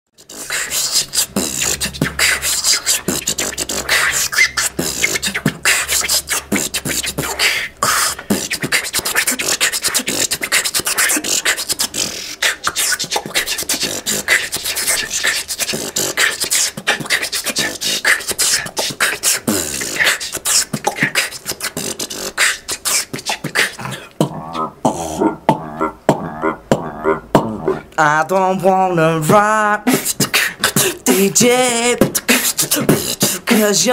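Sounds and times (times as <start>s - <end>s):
beatboxing: 0.2s - 33.9s
person singing: 0.2s - 33.9s.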